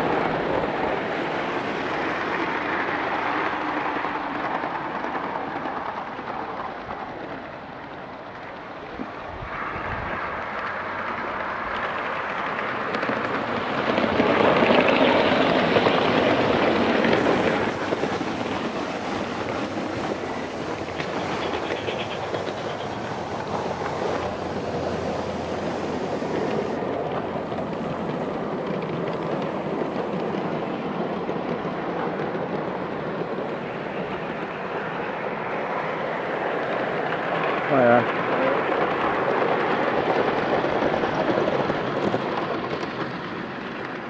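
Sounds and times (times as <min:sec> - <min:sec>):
model steam locomotive rumbling: 0:00.0 - 0:44.0.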